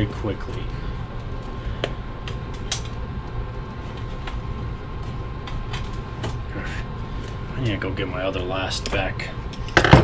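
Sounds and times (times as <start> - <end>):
background hum: 0.0 - 10.0.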